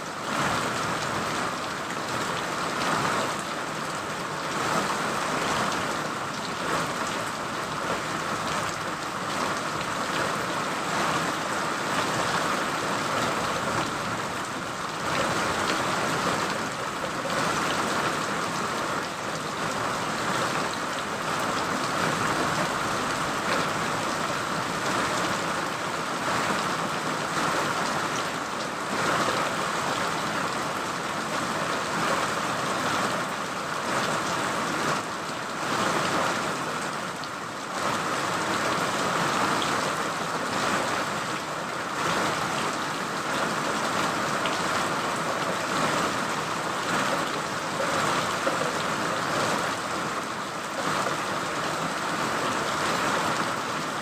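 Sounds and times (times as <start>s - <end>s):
steady rain hiss: 0.0s - 54.0s
raindrops pattering: 0.1s - 54.0s.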